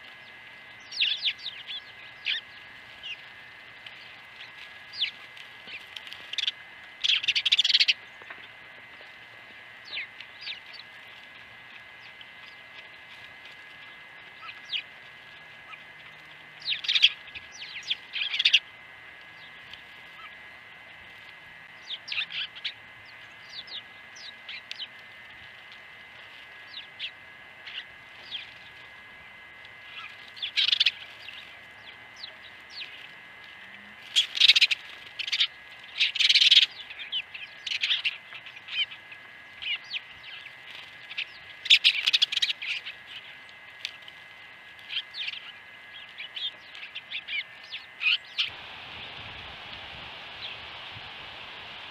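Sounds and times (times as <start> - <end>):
sparrows chirping: 0.0 - 21.0, 21.7 - 29.0, 29.8 - 33.2, 34.1 - 44.0, 44.8 - 51.9.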